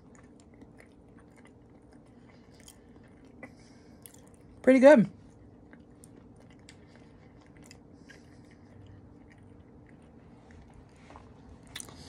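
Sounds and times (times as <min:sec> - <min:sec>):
chewing soft food: 0:00.0 - 0:12.0
faint steady hum: 0:00.0 - 0:12.0.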